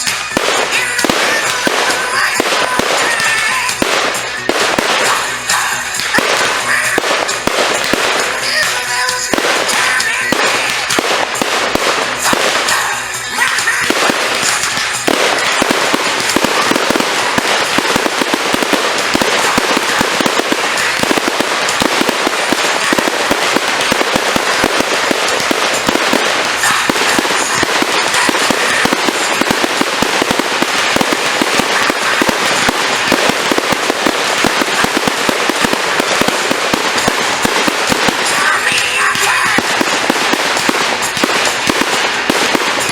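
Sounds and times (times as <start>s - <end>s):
fireworks crackling: 0.0s - 42.9s.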